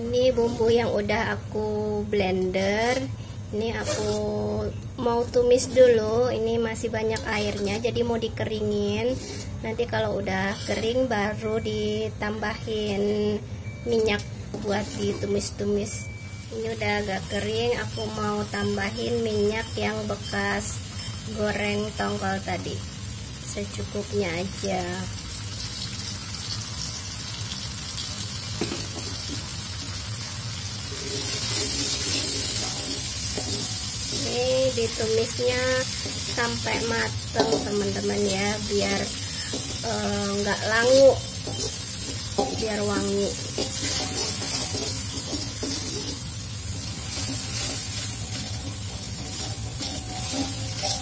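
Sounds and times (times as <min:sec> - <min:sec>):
chili paste sizzling in a wok: 0:00.0 - 0:51.0.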